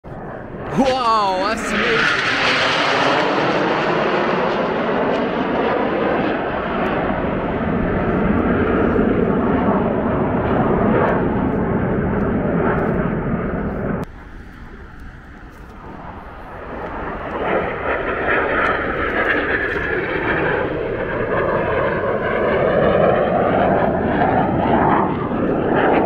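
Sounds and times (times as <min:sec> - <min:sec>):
fighter jet roar: 0:00.1 - 0:26.0.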